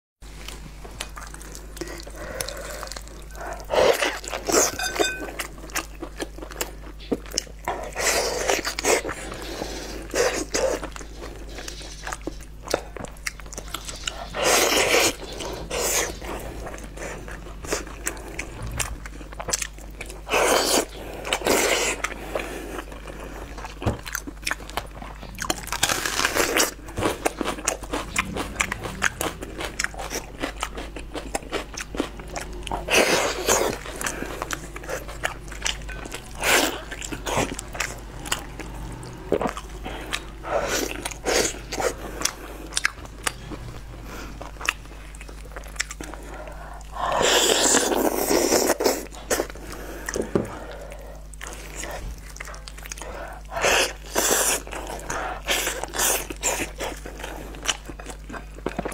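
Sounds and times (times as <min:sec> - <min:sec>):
close chewing and biting: 0:00.3 - 0:58.9.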